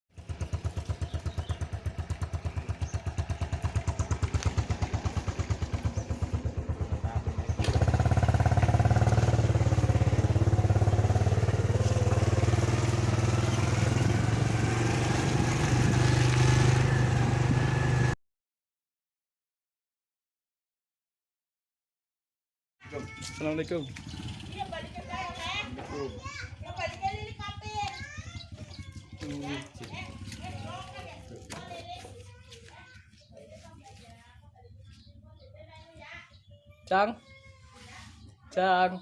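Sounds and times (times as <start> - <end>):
motorcycle engine: 0.1 - 18.2, 22.9 - 37.4.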